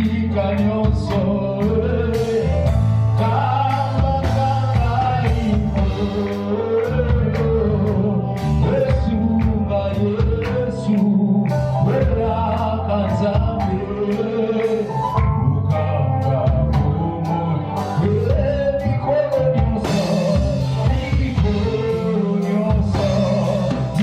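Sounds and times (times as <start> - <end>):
bass line: 0.0 - 24.0
drums keeping a beat: 0.0 - 24.0
guitar: 0.0 - 24.0
person singing: 0.0 - 24.0.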